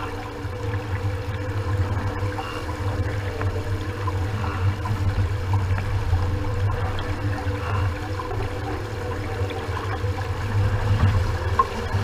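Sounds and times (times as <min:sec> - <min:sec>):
water splashing along boat hull: 0:00.0 - 0:12.0.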